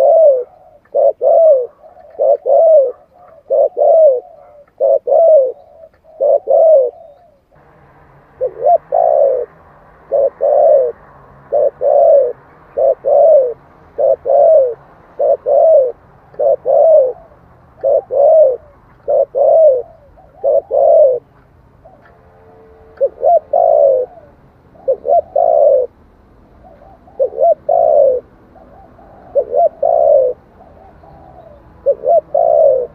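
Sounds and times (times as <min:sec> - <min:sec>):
dove cooing: 0:00.0 - 0:07.6, 0:08.3 - 0:32.9.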